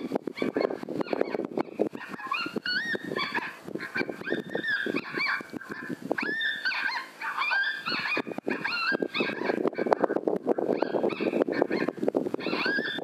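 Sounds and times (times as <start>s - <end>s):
high whining yelps from caller: 0.0s - 13.0s.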